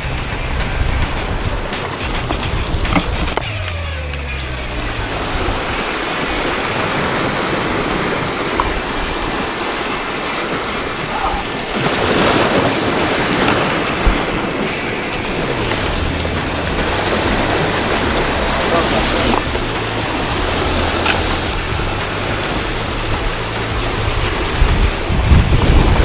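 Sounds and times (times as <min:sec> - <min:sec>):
sea surf breaking over rocks: 0:00.0 - 0:26.0.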